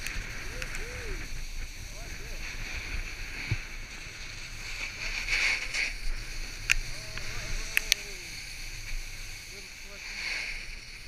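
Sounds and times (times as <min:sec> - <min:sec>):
snowboard sliding through snow: 0:00.0 - 0:11.0.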